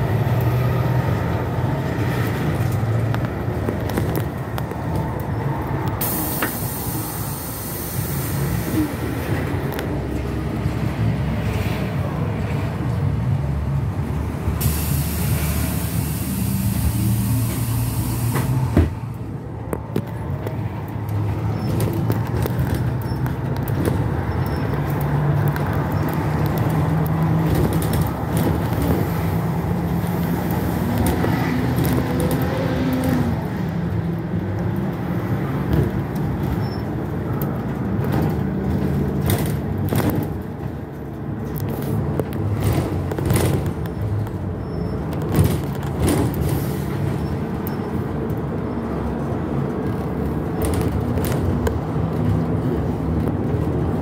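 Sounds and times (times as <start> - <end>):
trolleybus rumble: 0.0 - 54.0.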